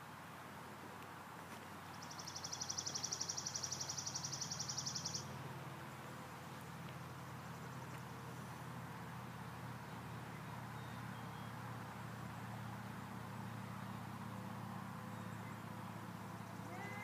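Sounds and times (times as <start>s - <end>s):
engine humming: 0.0s - 17.0s
faint outdoor background noise: 0.0s - 17.0s.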